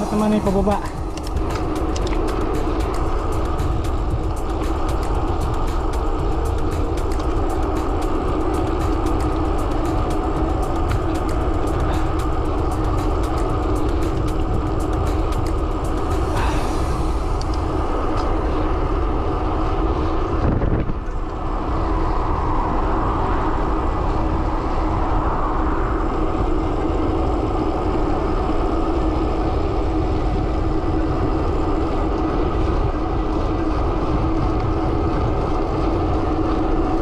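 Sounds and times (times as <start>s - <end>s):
bike tyres humming on asphalt: 0.0s - 37.0s
loud wind rush on microphone: 0.0s - 37.0s.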